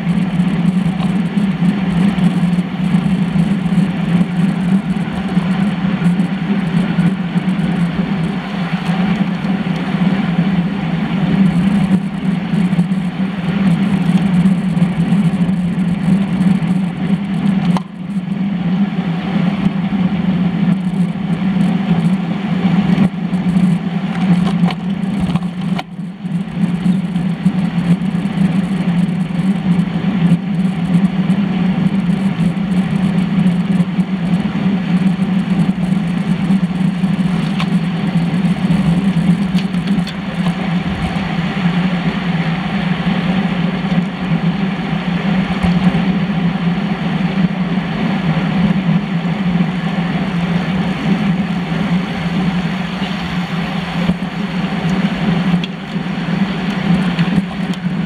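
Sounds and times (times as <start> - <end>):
bike tyres rumbling on asphalt: 0.0 - 58.0
wind noise: 0.0 - 58.0.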